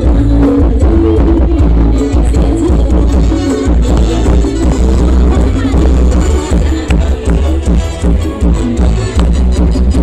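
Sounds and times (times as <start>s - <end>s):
loud dance music with heavy bass: 0.0s - 10.0s.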